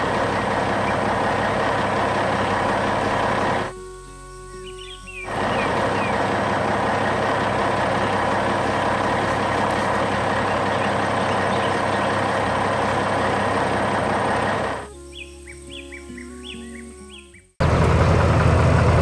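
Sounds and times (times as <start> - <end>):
heavy machinery running: 0.0 - 14.9, 17.6 - 19.0
chirping: 0.0 - 17.6.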